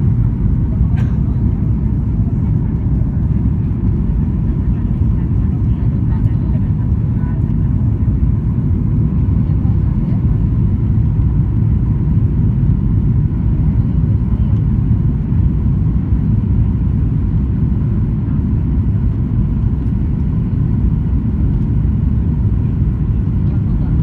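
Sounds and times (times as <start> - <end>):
airliner cabin rumble: 0.0 - 24.0.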